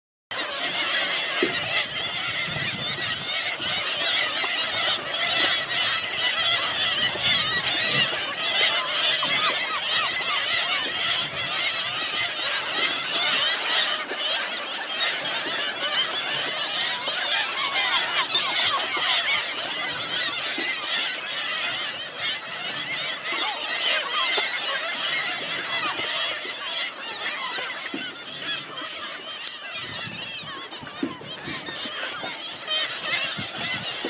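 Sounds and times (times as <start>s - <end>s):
flock of gulls calling: 0.3s - 34.0s.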